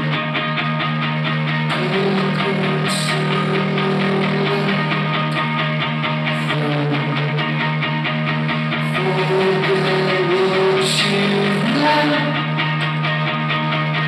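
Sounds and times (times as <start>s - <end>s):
bass guitar: 0.0s - 14.0s
electric guitar: 0.0s - 14.0s.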